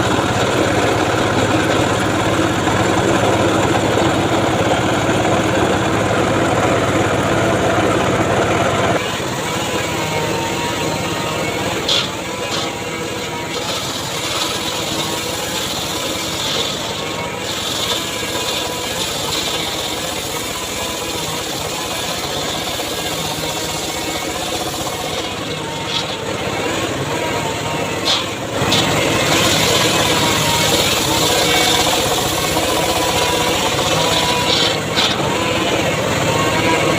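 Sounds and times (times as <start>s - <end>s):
circular saw engine running: 0.0s - 36.9s.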